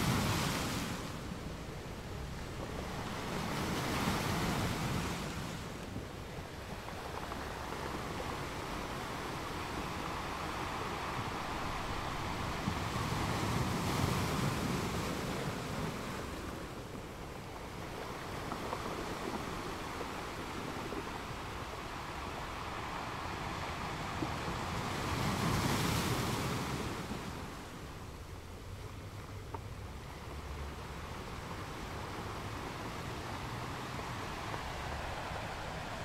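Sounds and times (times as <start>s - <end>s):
ocean waves on shore: 0.0s - 36.0s.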